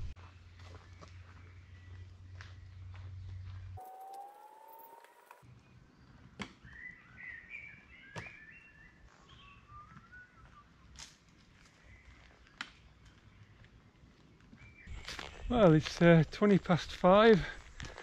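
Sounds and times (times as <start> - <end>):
footsteps on a path: 0.0 - 6.9, 7.6 - 18.0
bird singing: 0.2 - 16.5.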